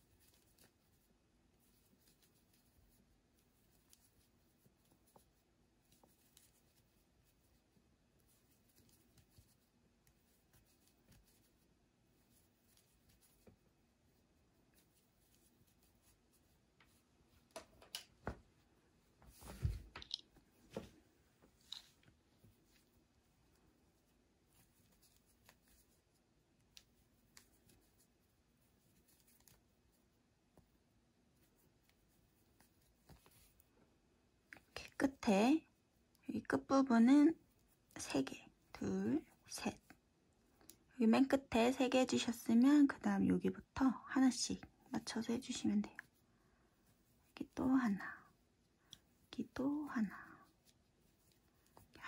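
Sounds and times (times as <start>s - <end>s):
crochet hook and yarn rustling: 0.0s - 52.0s.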